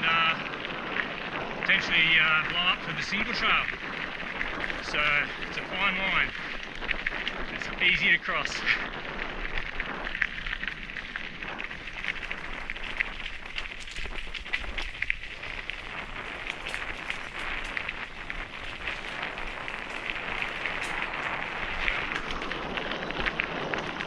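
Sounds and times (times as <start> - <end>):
bike tyres crunching on gravel: 0.0 - 24.0
small stones clicking: 2.8 - 24.0.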